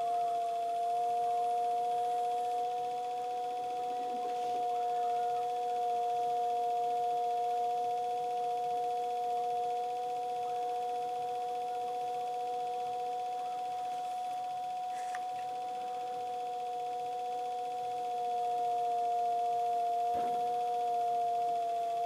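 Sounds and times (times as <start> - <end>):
potter's wheel motor whining: 0.0 - 22.0.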